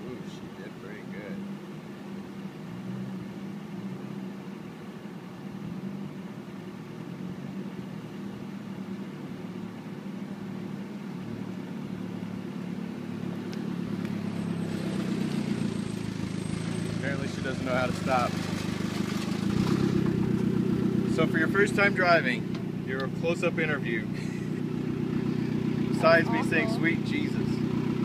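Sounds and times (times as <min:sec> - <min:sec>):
car engine and tyres: 0:00.0 - 0:28.0.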